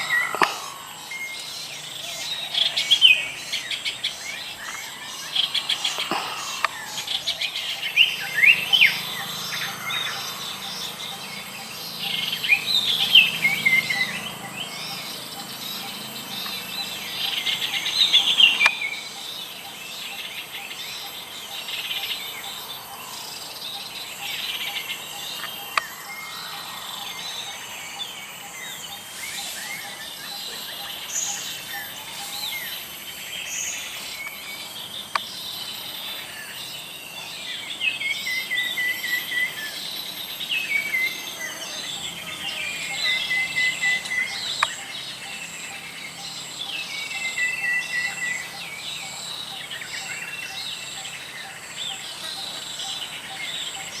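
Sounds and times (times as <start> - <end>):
birds chirping and singing: 0.0 - 54.0
insect drone: 0.0 - 54.0.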